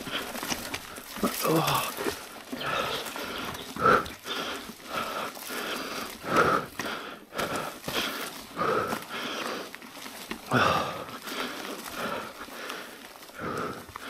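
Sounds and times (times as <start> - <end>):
person breathing hard: 0.0 - 14.0
tyre and trail noise: 0.0 - 14.0.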